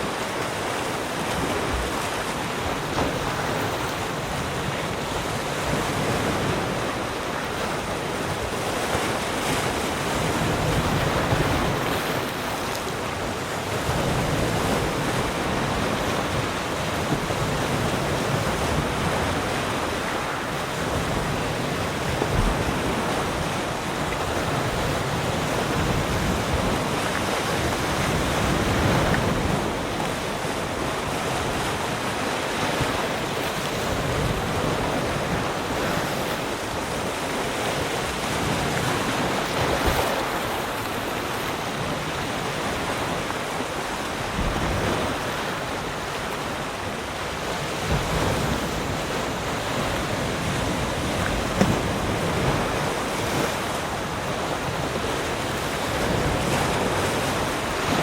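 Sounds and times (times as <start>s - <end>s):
waves breaking on shore: 0.0s - 58.0s
wind noise on microphone: 0.0s - 58.0s.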